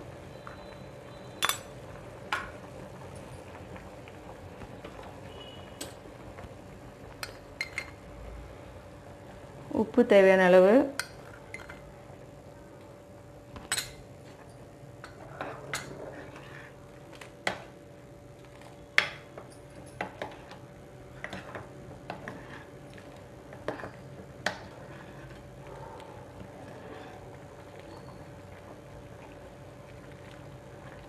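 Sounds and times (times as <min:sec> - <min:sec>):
faint hum: 0:00.0 - 0:31.0.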